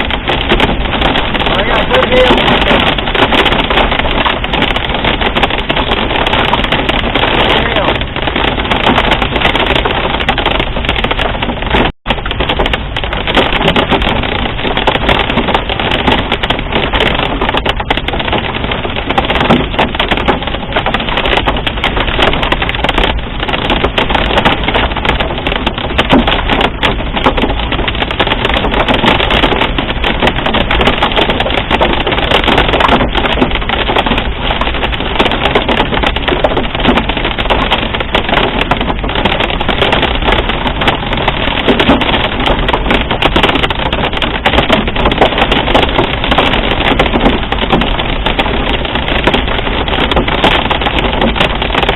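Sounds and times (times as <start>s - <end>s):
hail hammering on a car roof: 0.0s - 51.9s.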